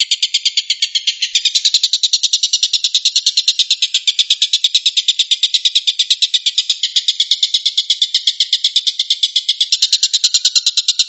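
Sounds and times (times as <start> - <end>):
bird giving rapid harsh calls: 0.0 - 11.0.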